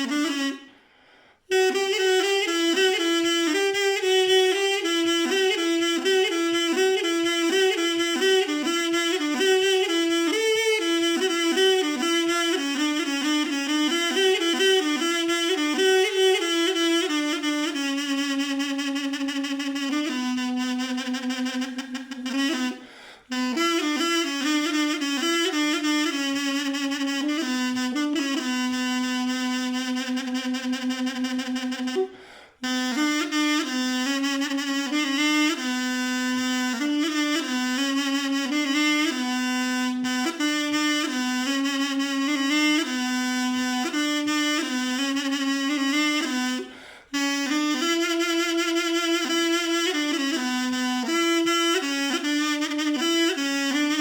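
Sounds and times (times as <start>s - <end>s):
double-reed pipe folk melody: 0.0s - 54.0s.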